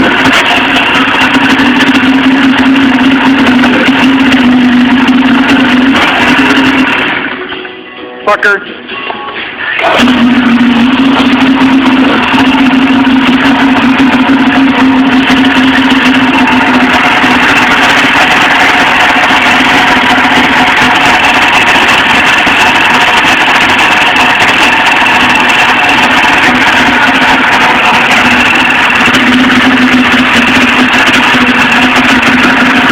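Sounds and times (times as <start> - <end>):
snowmobile engine running: 0.0 - 7.4, 9.8 - 32.9.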